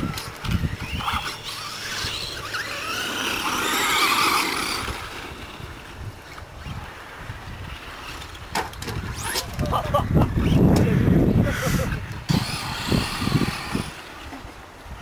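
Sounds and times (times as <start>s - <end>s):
toy truck motors whining: 0.0s - 9.7s, 11.6s - 14.5s.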